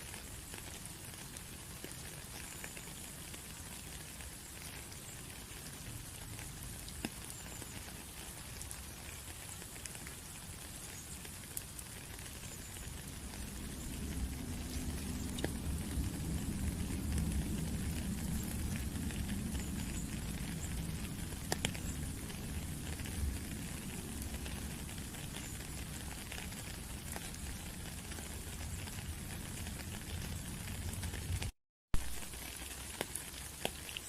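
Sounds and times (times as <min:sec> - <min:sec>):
rain pattering: 0:00.0 - 0:34.0
gurgling running water: 0:00.1 - 0:31.2
sharp drips ticking: 0:00.1 - 0:31.5.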